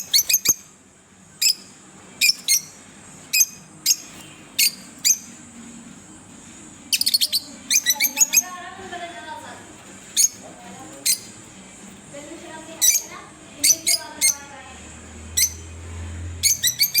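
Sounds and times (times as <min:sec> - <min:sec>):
lovebirds chirping: 0:00.0 - 0:00.8, 0:01.4 - 0:05.6, 0:06.7 - 0:11.6, 0:12.2 - 0:17.0.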